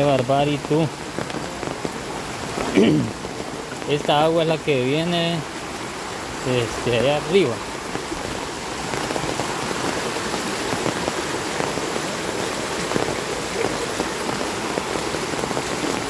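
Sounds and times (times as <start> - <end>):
rushing splashing water: 0.0 - 16.0.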